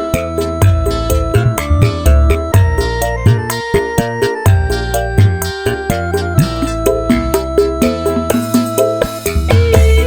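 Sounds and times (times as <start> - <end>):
dangdut keyboard music: 0.0 - 10.0.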